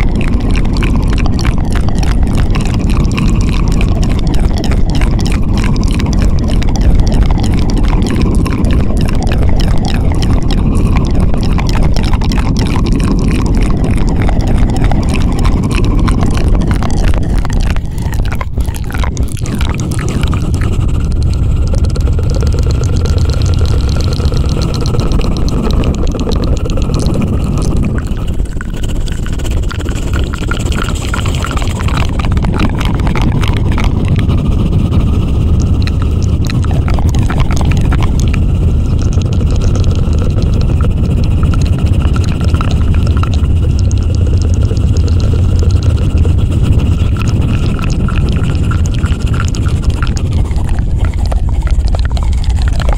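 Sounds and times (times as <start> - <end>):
deep low rumble: 0.0 - 52.9
fluttering rapid clicks at microphone: 0.0 - 52.9.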